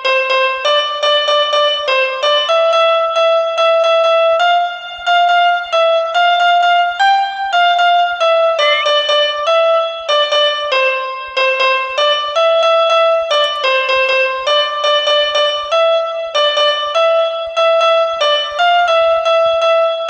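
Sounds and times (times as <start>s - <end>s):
keyboard melody: 0.0s - 20.0s.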